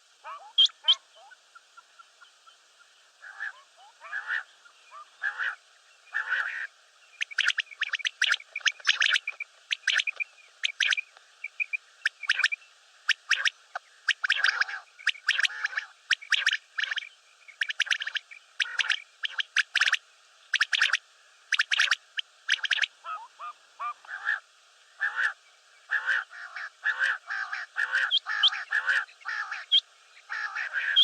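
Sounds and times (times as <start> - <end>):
quail calling: 0.2 - 2.6, 3.2 - 24.4, 25.0 - 31.0.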